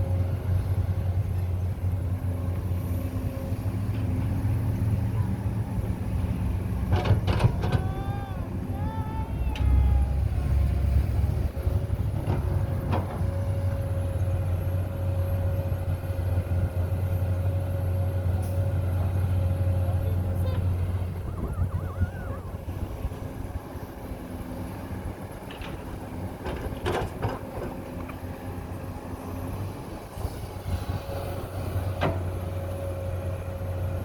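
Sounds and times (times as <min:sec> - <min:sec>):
excavator engine humming: 0:00.0 - 0:34.0
excavator whine: 0:00.0 - 0:34.0.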